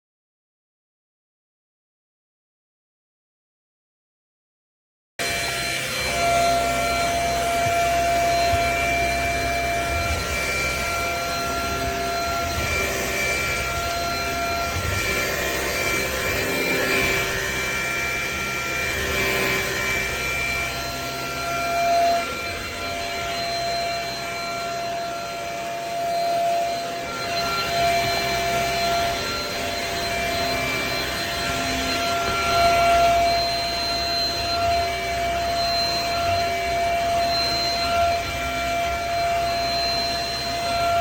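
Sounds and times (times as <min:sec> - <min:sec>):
stick vacuum running: 0:05.2 - 0:41.0.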